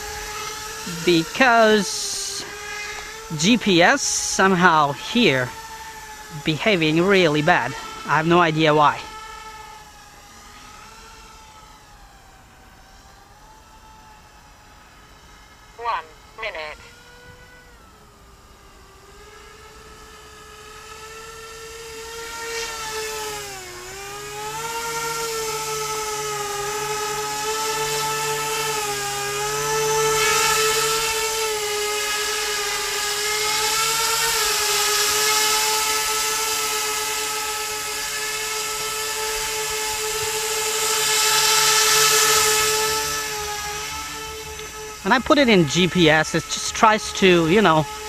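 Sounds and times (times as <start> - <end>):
rotor aircraft high whine: 0.0 - 48.0.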